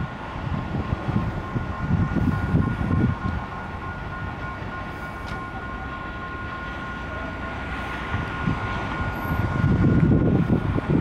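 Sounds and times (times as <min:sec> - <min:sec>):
trains rumbling: 0:00.0 - 0:11.0
two-tone crossing warning bell: 0:00.0 - 0:11.0.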